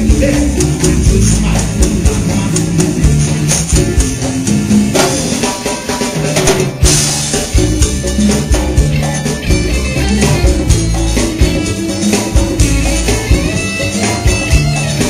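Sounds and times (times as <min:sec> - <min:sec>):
drum kit: 0:00.0 - 0:15.0
live rock band playing: 0:00.0 - 0:15.0.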